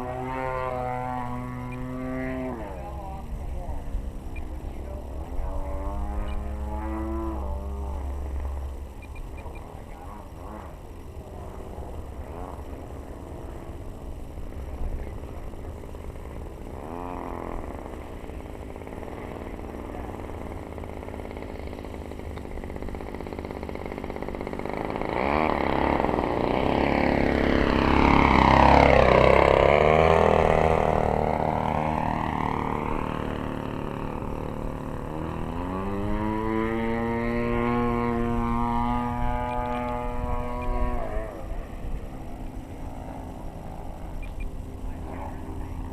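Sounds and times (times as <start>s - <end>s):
model plane engine in flight: 0.0s - 45.9s.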